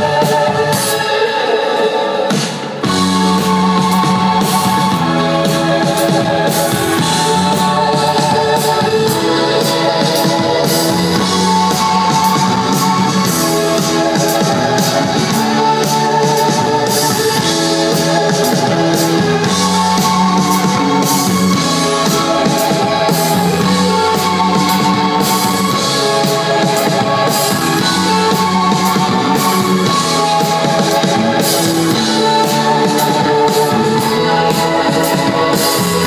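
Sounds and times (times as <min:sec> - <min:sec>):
drum kit beat: 0:00.0 - 0:01.3, 0:02.2 - 0:36.0
keyboard: 0:00.0 - 0:36.0
electric guitar: 0:02.3 - 0:36.0.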